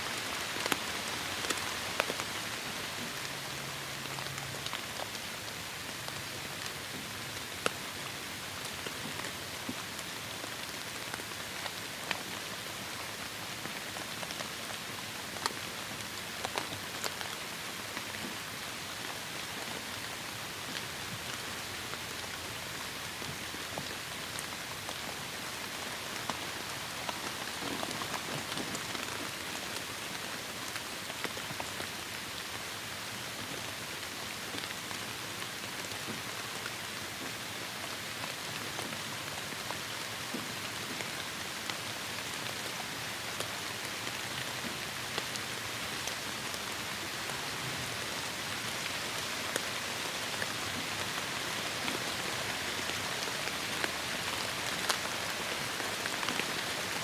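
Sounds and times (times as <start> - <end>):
heavy rain falling: 0.0 - 57.0
raindrops pattering close by: 0.1 - 57.0.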